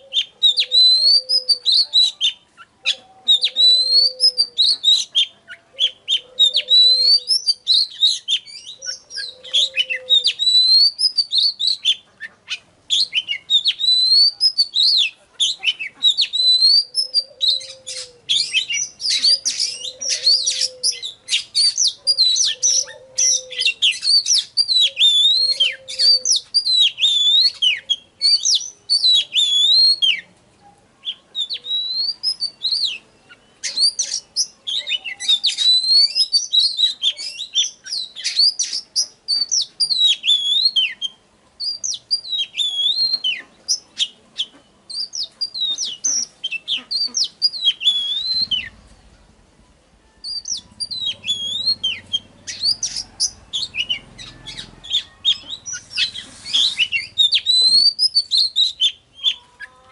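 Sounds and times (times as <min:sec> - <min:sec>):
bird singing whistled phrases: 0:00.0 - 0:30.3, 0:31.0 - 0:48.8, 0:50.2 - 0:59.7.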